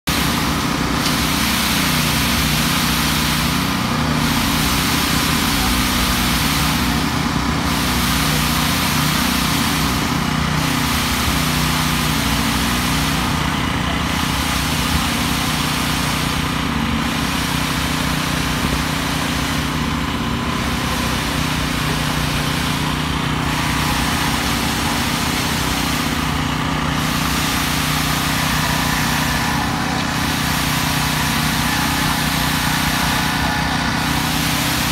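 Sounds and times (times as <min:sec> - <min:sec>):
construction machinery: 0:00.0 - 0:34.9
small petrol engines running: 0:00.0 - 0:34.9.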